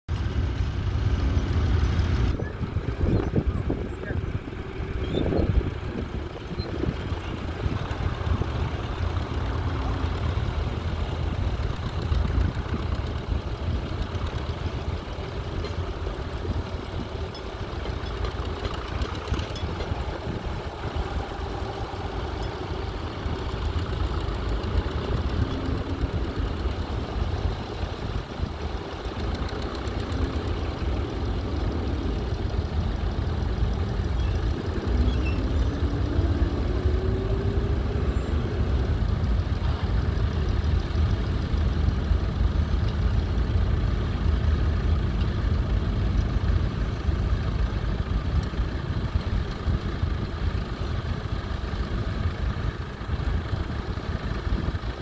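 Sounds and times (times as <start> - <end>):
tractor diesel engine under load: 0.1 - 55.0.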